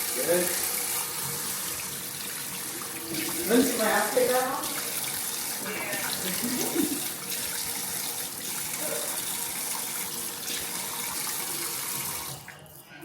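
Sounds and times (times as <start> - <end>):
water running from a tap: 0.0 - 12.7.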